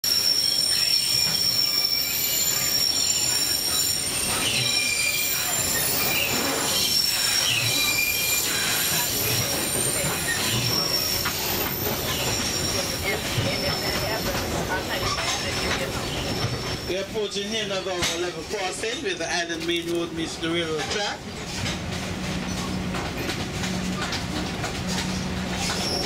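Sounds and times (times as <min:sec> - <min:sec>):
train wheels squealing on rails: 0:00.0 - 0:21.8, 0:22.4 - 0:26.0
train cars running noise: 0:00.0 - 0:26.0.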